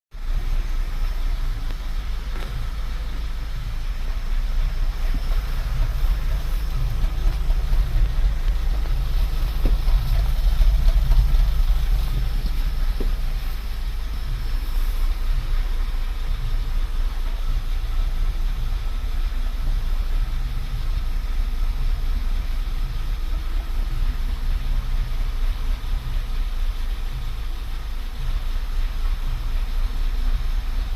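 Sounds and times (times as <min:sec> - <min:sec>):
car engine idling unevenly: 0:00.1 - 0:30.9.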